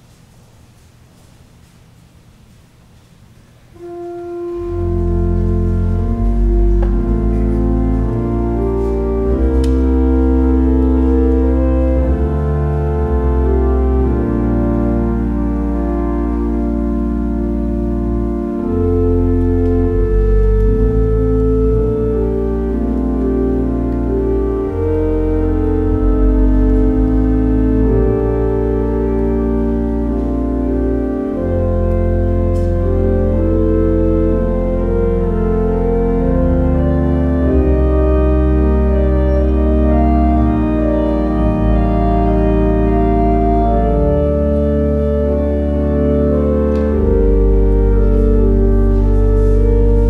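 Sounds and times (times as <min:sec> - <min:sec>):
church organ chords: 0:03.6 - 0:50.0.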